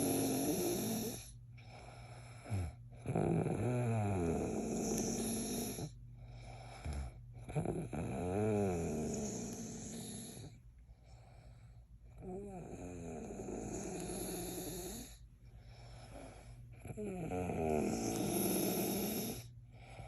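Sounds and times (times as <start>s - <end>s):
man snoring: 0.0s - 10.6s, 12.2s - 15.2s, 15.9s - 20.0s
high snoring hiss: 0.0s - 11.6s, 12.2s - 20.0s.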